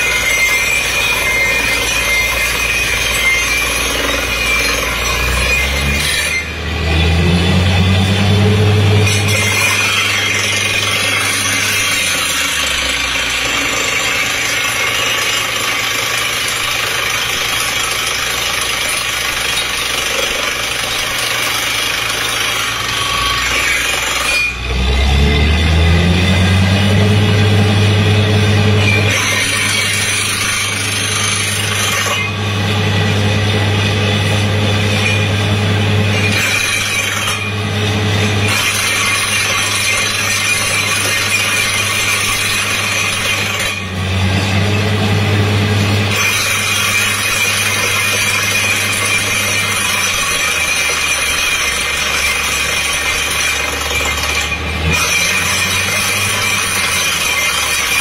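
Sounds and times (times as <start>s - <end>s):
drilling rig engine running: 0.0s - 58.0s.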